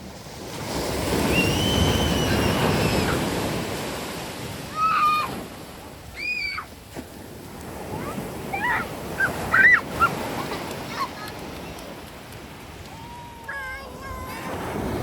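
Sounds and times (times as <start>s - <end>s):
sea wave breaking: 0.0s - 15.0s.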